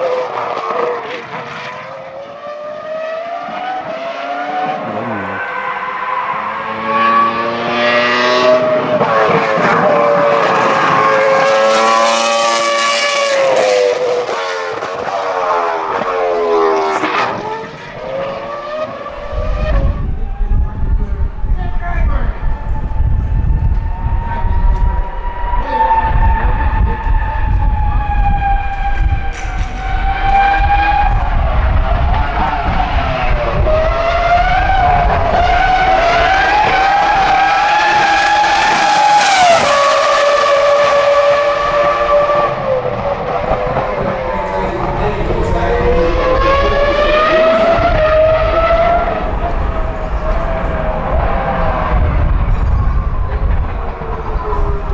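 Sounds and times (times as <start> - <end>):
racing car engine at high revs: 0.0 - 54.9.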